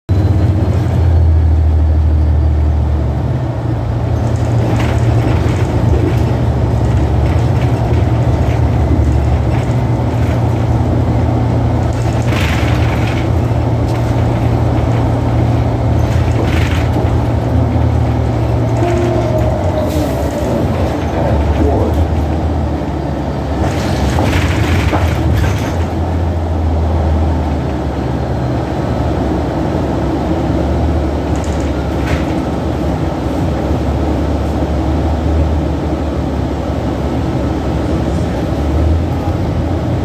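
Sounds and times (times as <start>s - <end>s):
bus engine drone: 0.1s - 40.0s.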